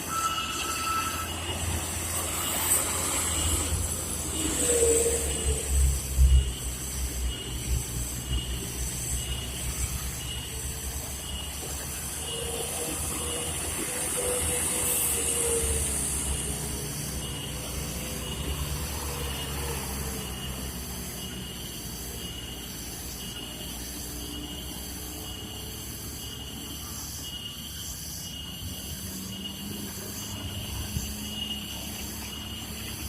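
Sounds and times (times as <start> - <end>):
truck diesel engine labouring: 0.0 - 26.8.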